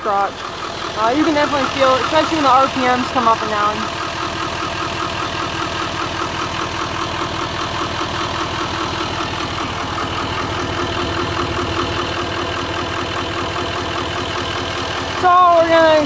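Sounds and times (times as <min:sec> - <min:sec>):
diesel engine idling roughly: 0:00.0 - 0:16.0.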